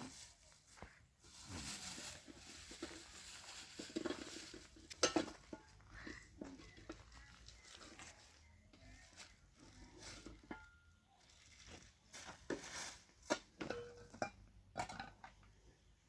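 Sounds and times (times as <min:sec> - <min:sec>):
objects rustling and clattering: 0:00.0 - 0:15.6.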